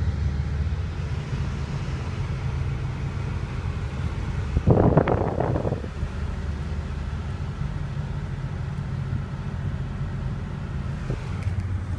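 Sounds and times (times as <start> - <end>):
car engine rumble: 0.0 - 11.9.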